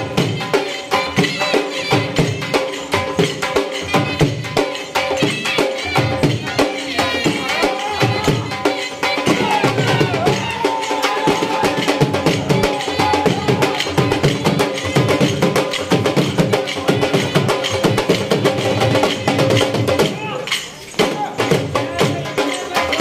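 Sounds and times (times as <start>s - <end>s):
fast steady drumming: 0.0s - 23.0s.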